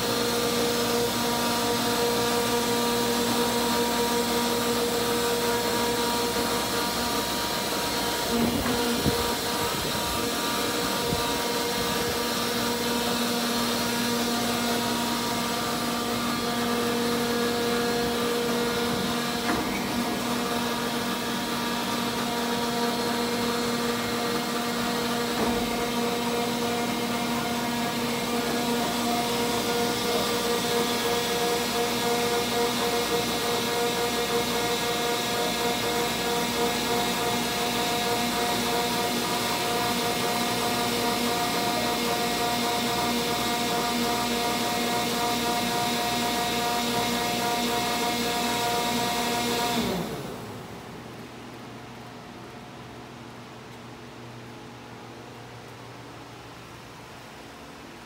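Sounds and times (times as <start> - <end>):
grinding machine humming: 0.0 - 51.4.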